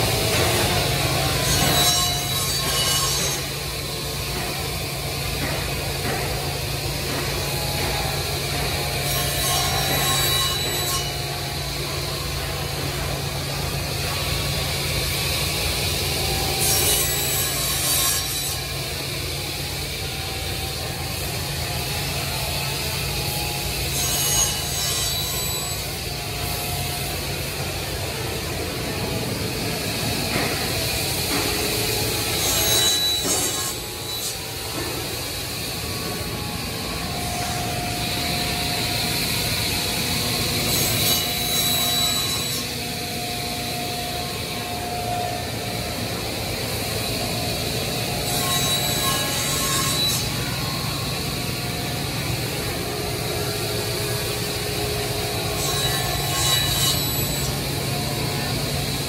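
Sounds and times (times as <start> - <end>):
saw blade cutting wood: 0.0 - 59.0.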